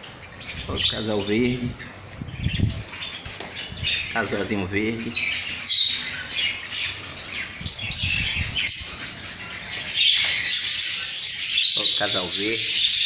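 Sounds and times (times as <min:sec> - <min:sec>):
budgerigars chirping and squawking: 0:00.0 - 0:13.0.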